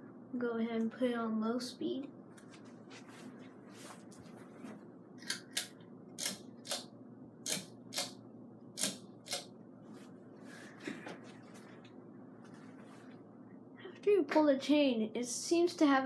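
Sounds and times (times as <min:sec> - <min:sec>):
ceiling fan humming: 0:00.0 - 0:16.0.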